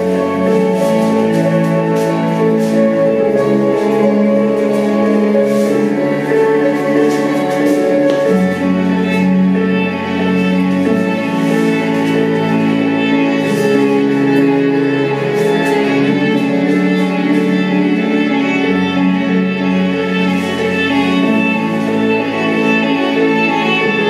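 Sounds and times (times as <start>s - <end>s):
slow bowed string music: 0.0s - 24.0s.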